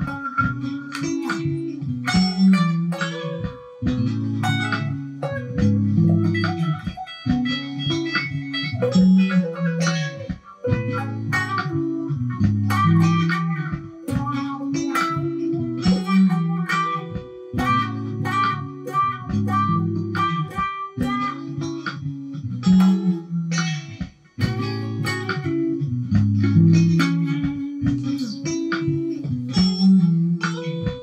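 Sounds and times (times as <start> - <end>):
electric guitar playing soul: 0.0 - 31.0.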